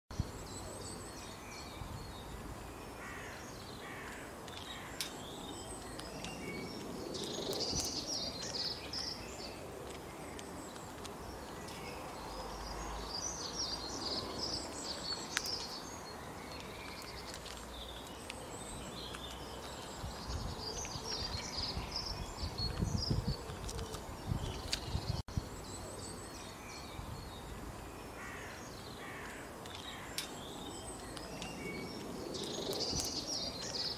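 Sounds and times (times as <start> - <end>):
outdoor background hiss: 0.1 - 23.4, 24.0 - 33.9
wind rumbling on microphone: 0.1 - 28.4, 30.0 - 33.9
small birds chirping and twittering: 0.1 - 33.9.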